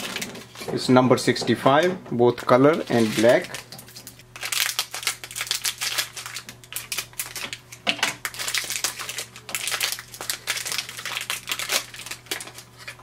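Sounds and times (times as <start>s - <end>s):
plastic packaging crackling: 0.0s - 0.6s, 2.3s - 13.0s.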